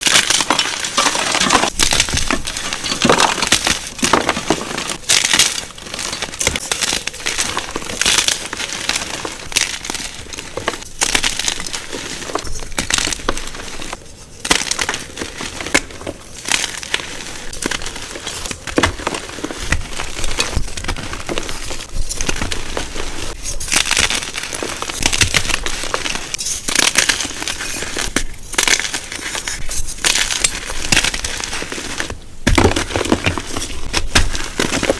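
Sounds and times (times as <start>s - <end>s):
chalk crunching and crumbling: 0.0s - 34.9s.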